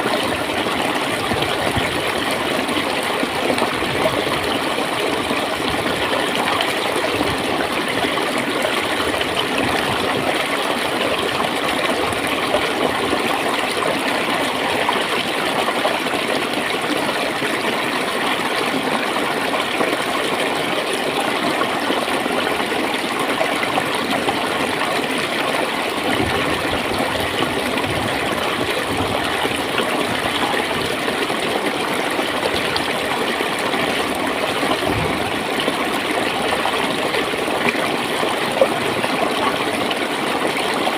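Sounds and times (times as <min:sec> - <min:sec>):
stream running and gurgling: 0:00.0 - 0:40.9.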